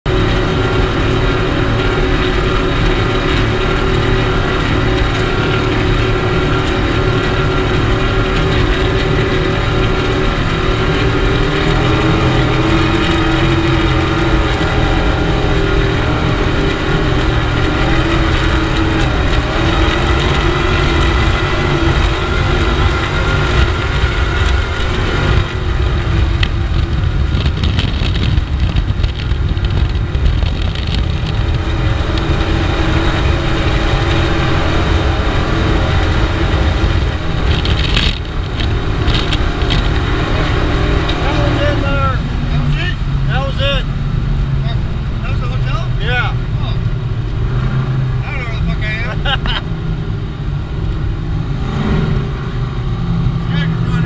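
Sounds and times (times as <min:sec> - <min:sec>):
boat engines running at high speed: 0:00.0 - 0:54.0.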